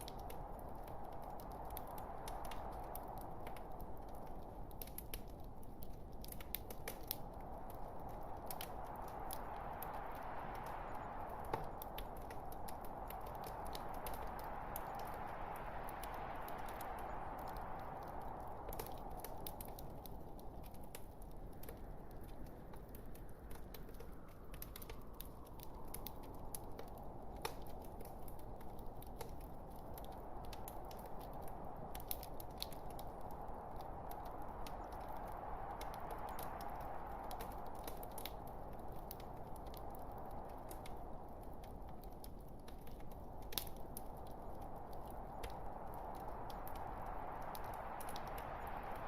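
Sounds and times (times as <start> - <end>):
log fire crackling: 0.0 - 49.0.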